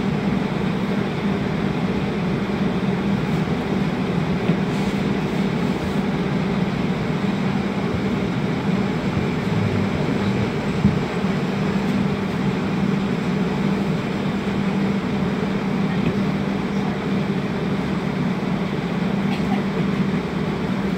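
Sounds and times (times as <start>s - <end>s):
streetcar cabin hum and rumble: 0.0s - 20.9s.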